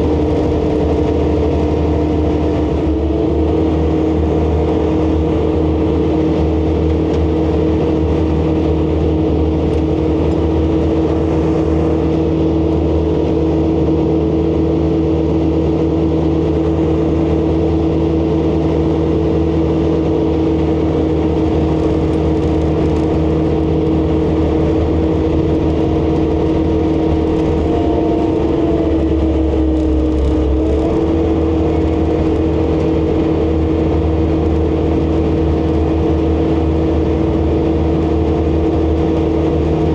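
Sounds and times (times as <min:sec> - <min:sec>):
diesel engine running at high revs: 0:00.0 - 0:39.9
snowblower clearing snow: 0:00.0 - 0:39.9.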